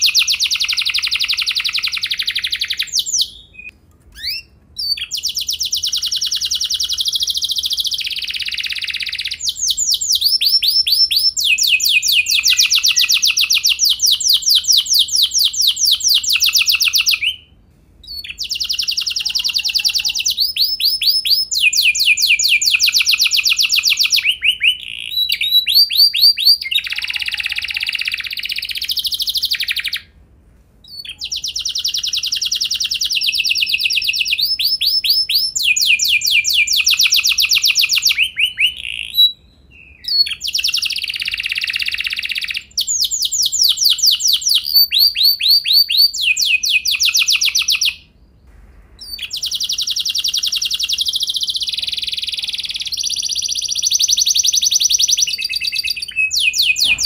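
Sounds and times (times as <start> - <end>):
canary singing trills: 0.0 - 30.1, 30.9 - 48.2, 49.0 - 57.0.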